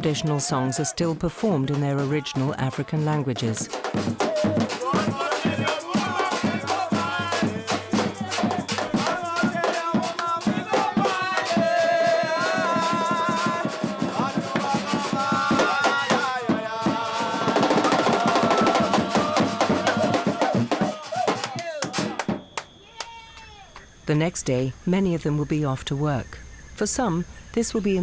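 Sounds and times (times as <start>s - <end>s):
drums beating fast rhythm: 0.0s - 22.7s
voices singing: 0.0s - 28.0s.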